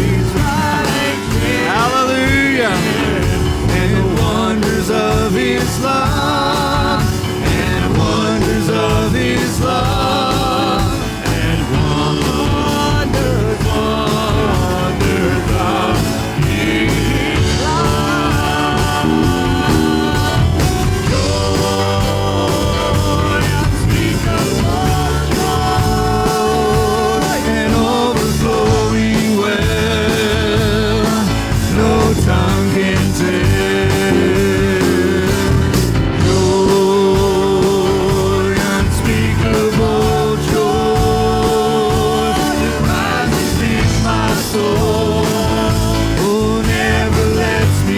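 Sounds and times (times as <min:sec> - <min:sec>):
band accompaniment: 0:00.0 - 0:47.9
voices singing: 0:00.0 - 0:47.9.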